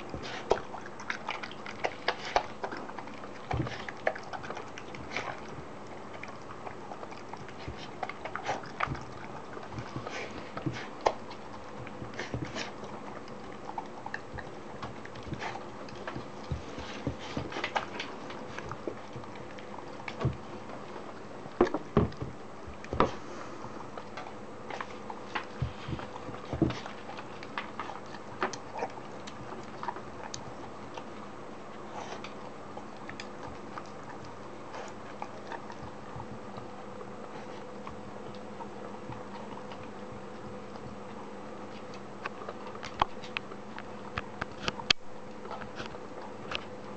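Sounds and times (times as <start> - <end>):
dog chewing and smacking: 0.0 - 46.9
faint steady hum: 0.0 - 46.9.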